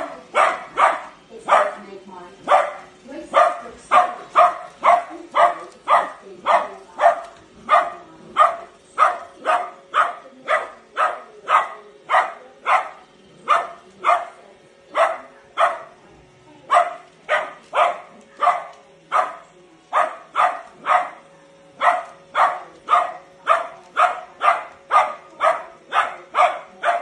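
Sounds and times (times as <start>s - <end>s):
small dog barking: 0.2s - 1.8s, 2.4s - 16.0s, 16.7s - 27.0s.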